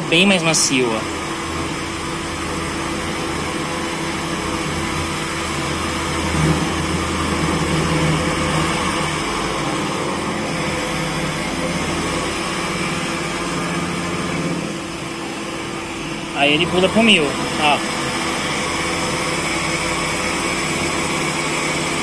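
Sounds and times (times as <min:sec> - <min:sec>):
coolant spray: 0:00.0 - 0:22.0
milling machine cutting: 0:00.0 - 0:22.0.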